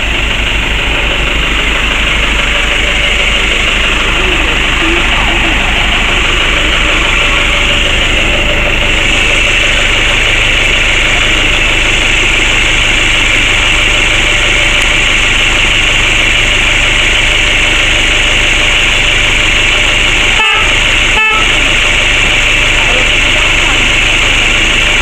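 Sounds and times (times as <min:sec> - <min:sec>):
minibus engine idling: 0:00.0 - 0:25.0.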